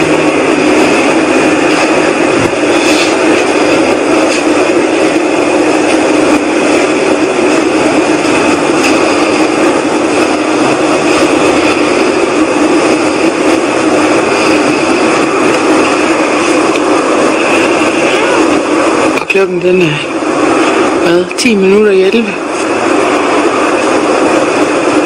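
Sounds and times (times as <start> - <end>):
rushing drone with whine: 0.0 - 25.0.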